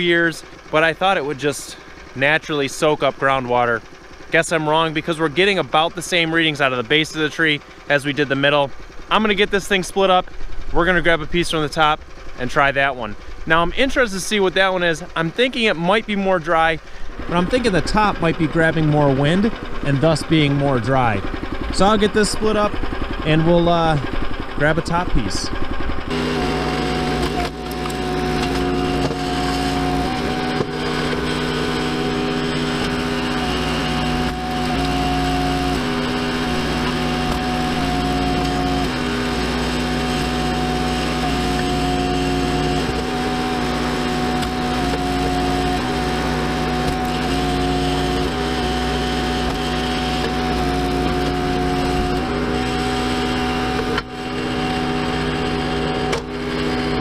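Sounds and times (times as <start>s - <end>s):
small gasoline engine running: 0.0s - 57.0s.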